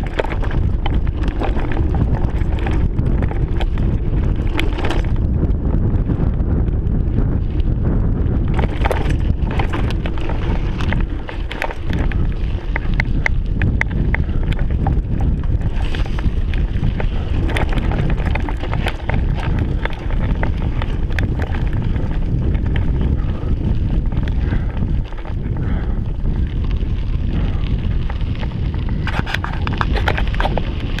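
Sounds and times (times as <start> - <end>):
bike clicks and rattles: 0.0 - 31.0
wind buffeting microphone: 0.0 - 31.0.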